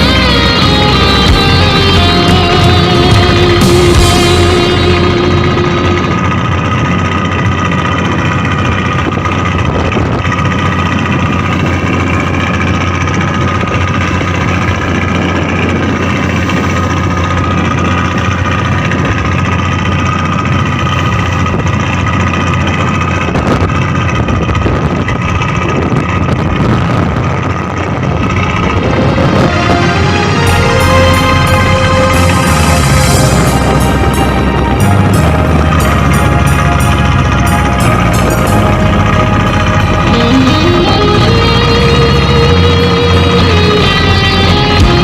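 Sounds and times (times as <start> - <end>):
dense wash of noise: 0.0 - 45.0
small boat engine running: 0.0 - 45.0.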